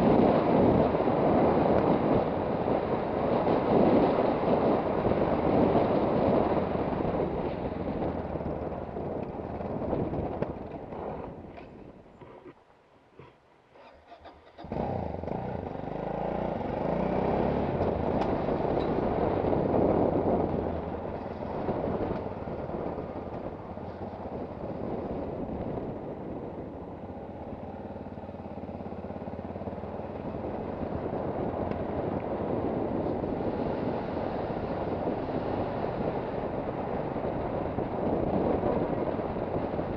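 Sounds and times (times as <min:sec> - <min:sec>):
motorcycle engine running: 0:00.0 - 0:12.2, 0:13.2 - 0:39.9
wind rushing on microphone: 0:00.0 - 0:12.6, 0:14.1 - 0:39.9.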